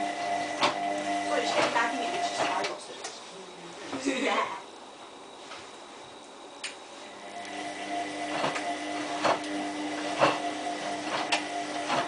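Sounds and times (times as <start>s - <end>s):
washing machine motor whine: 0.0s - 12.0s.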